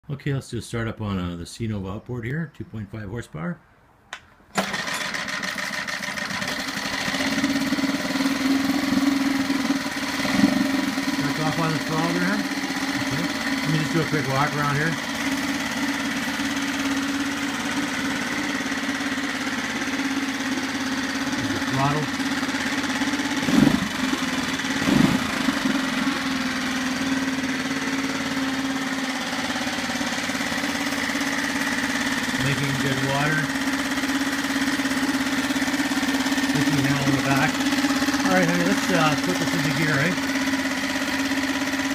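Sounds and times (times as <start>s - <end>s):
outboard motor running: 4.5s - 41.9s.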